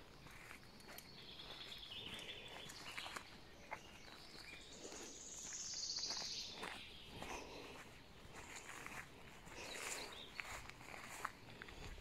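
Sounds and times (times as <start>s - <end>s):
birds singing: 0.0s - 12.0s
faint footsteps on road: 0.0s - 12.0s.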